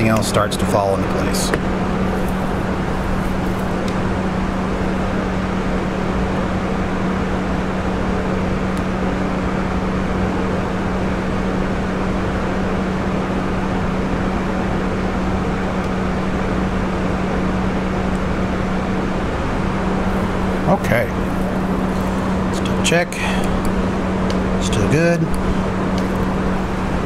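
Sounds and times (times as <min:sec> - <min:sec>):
low steady hum with hiss: 0:00.0 - 0:27.0.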